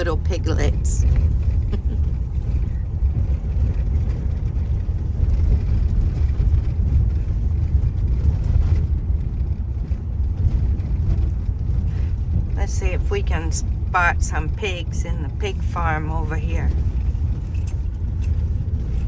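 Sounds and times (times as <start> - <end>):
car interior road and engine noise: 0.0 - 19.0.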